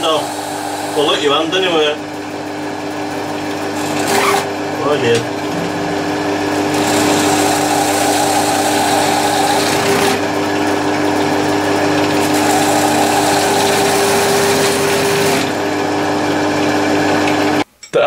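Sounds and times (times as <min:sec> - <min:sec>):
drill bit cutting plastic sheet: 0:00.0 - 0:02.0, 0:03.1 - 0:17.6
drill press motor hum: 0:00.0 - 0:17.6.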